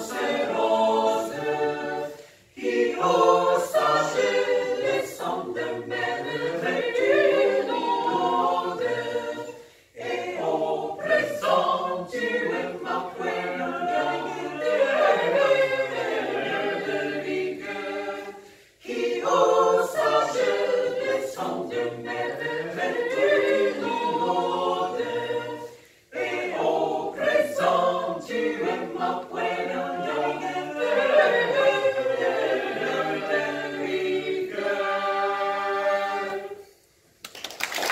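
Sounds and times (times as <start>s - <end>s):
mixed choir singing unaccompanied: 0.0s - 36.8s.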